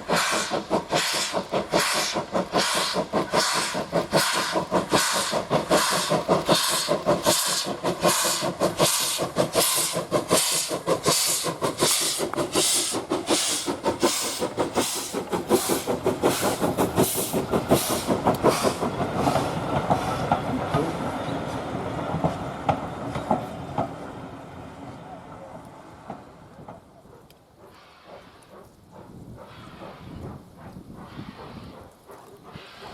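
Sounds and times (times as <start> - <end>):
steam locomotive exhaust beats: 0.0 - 32.9
train rumbling on rails: 0.0 - 32.9.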